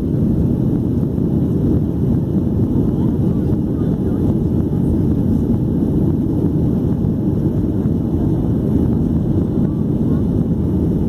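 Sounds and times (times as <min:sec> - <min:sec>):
airplane cabin engine noise: 0:00.0 - 0:11.0.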